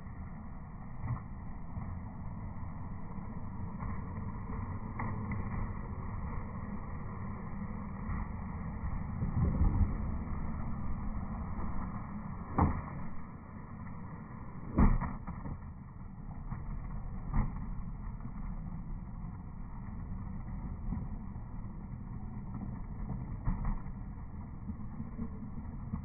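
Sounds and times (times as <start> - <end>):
skateboard wheels rolling on concrete: 0.0 - 26.0
skateboard clacks: 0.1 - 26.0.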